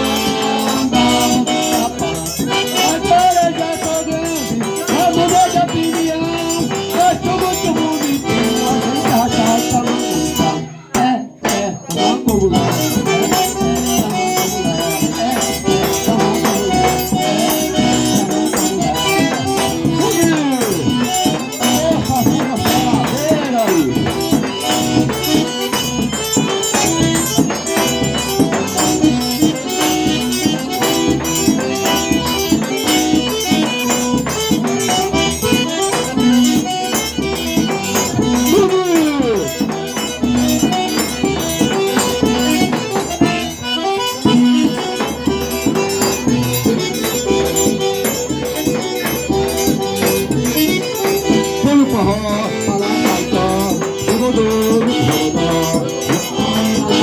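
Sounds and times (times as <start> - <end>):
button accordion melody: 0.0 - 57.0
shaker rhythm: 0.0 - 57.0.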